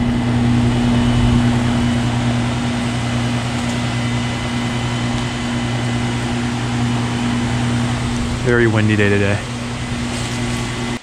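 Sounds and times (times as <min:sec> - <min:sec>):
fans blowing air: 0:00.0 - 0:11.0
low compressor hum: 0:00.0 - 0:11.0.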